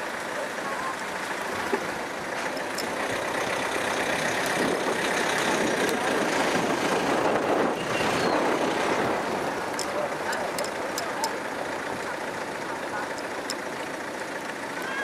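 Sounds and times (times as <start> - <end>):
rushing noise of moving vehicle: 0.0 - 15.0.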